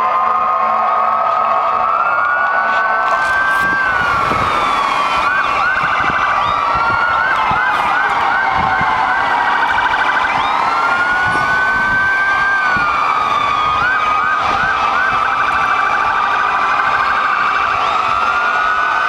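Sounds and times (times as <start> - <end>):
emergency vehicle sirens: 0.0 - 19.0.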